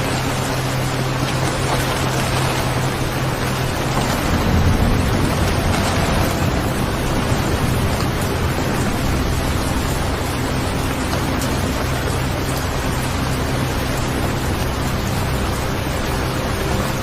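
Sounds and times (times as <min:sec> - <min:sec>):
heavy rain: 0:00.0 - 0:17.0
low drone: 0:00.0 - 0:17.0
thunder rumbling: 0:00.0 - 0:17.0.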